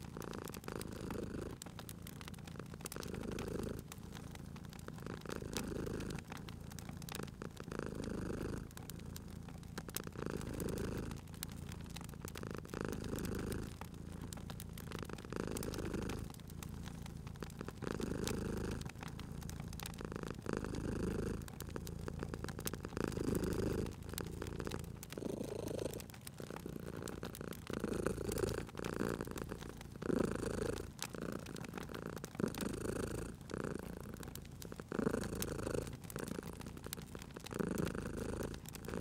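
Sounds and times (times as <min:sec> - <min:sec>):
cat purring: 0:00.0 - 0:39.0
wood fire crackling: 0:00.0 - 0:39.0.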